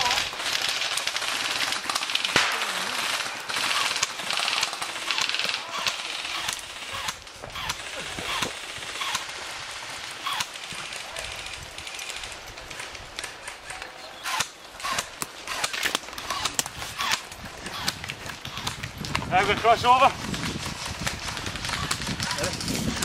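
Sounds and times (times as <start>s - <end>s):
airsoft guns firing: 0.0s - 23.0s.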